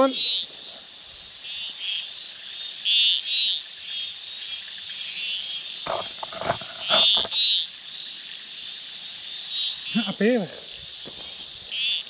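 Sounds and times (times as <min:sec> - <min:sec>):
frog or insect chorus: 0:00.0 - 0:12.0
frogs calling: 0:00.0 - 0:12.0.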